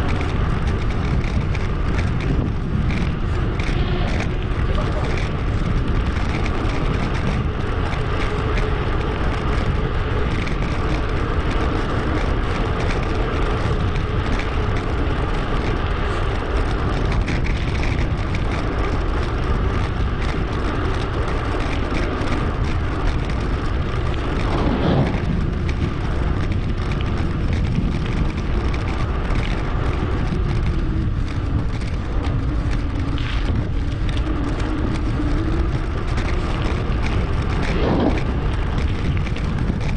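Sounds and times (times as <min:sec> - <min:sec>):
road and tyre noise: 0:00.0 - 0:39.9
wind rush on microphone: 0:00.0 - 0:39.9.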